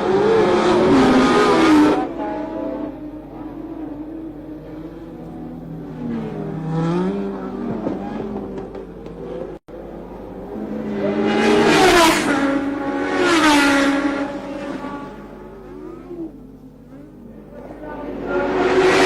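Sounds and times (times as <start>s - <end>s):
racing cars passing at speed: 0.0s - 19.0s.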